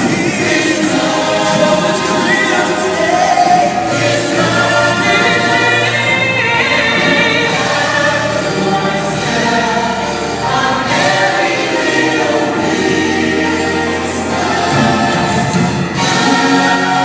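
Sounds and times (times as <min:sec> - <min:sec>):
choir singing: 0:00.0 - 0:17.0
instrumental backing: 0:00.0 - 0:17.0.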